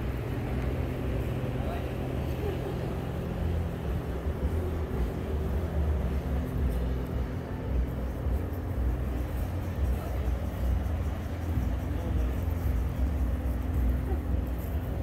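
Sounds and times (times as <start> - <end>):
low machine rumble and hum: 0.0 - 15.0.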